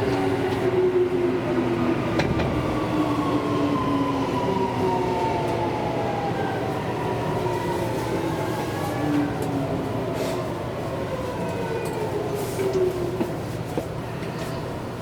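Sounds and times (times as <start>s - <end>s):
train rail running noise: 0.0s - 15.0s.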